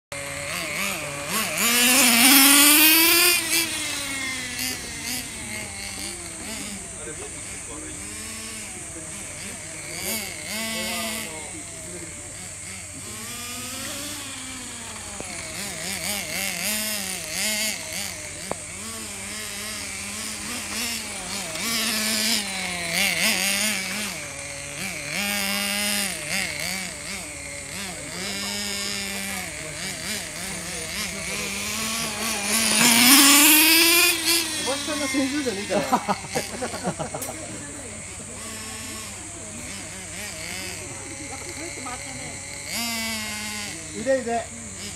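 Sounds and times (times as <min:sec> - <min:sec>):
model car engine running hard: 0:00.1 - 0:44.9.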